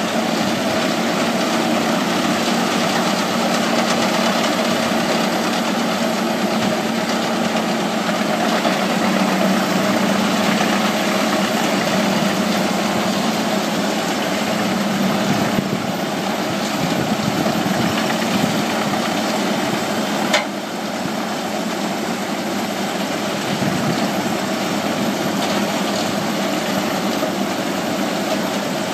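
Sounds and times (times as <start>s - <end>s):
tractor engine under load: 0.0s - 28.9s
wood chipper grinding: 0.0s - 28.9s.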